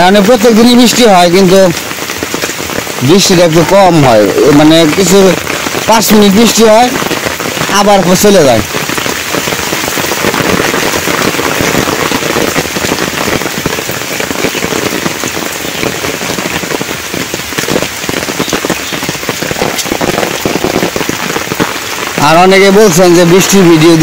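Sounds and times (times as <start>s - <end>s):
rain falling: 0.0s - 24.0s
raindrops striking close by: 0.0s - 24.0s.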